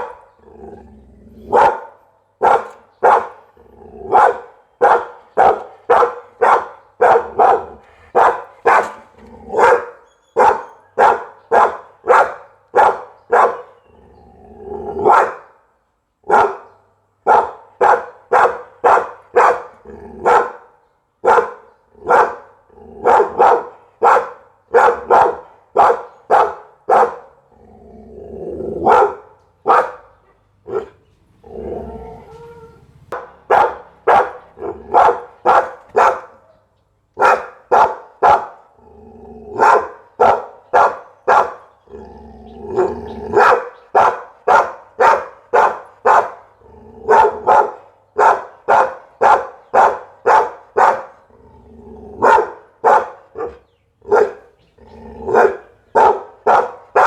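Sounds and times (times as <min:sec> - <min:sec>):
dog barking: 0:00.0 - 0:00.3, 0:01.4 - 0:13.8, 0:14.9 - 0:15.6, 0:16.3 - 0:27.4, 0:28.8 - 0:31.0, 0:31.9 - 0:38.7, 0:39.5 - 0:41.7, 0:42.8 - 0:51.2, 0:52.2 - 0:54.6, 0:55.2 - 0:57.0
drawn-out dog sounds: 0:00.0 - 0:15.5, 0:16.3 - 0:57.0.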